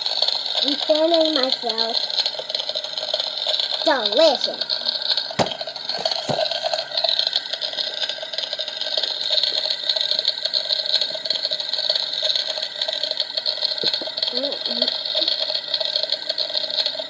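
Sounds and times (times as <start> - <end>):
toy grill electronic sizzling: 0.0 - 17.0.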